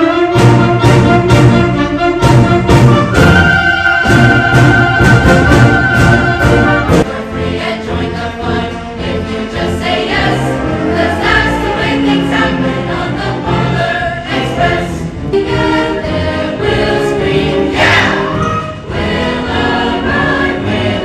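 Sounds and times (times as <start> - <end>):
choir singing: 2.2 - 21.0.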